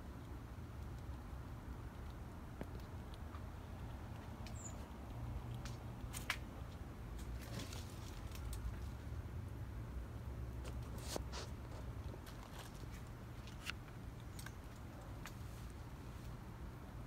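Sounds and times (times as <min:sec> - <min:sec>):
squirrel clicks and scratches: 0:00.1 - 0:09.2, 0:10.5 - 0:16.4.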